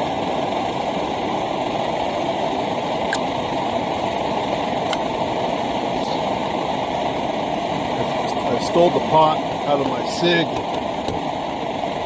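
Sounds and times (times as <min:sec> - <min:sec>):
liquid-fuel stove hissing: 0:00.0 - 0:12.0.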